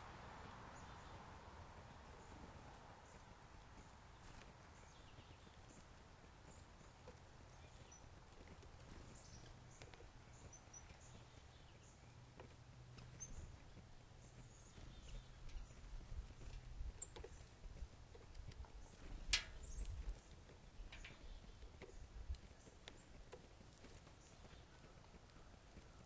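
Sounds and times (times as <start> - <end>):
woodpecker tapping: 3.0 - 26.0.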